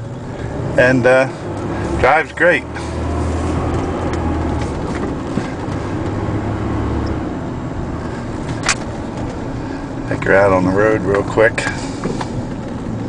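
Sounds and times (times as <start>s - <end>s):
engine humming inside cab: 0.0s - 13.0s.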